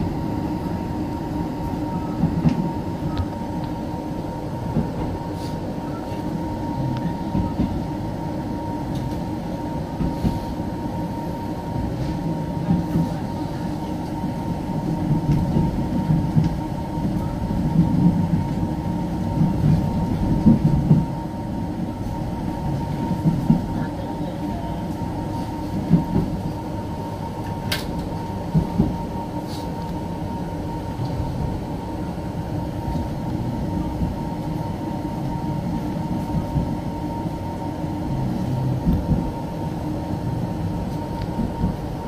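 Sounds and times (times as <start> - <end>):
constant hum: 0.0 - 42.0
train wheels rumbling on rails: 0.0 - 42.0.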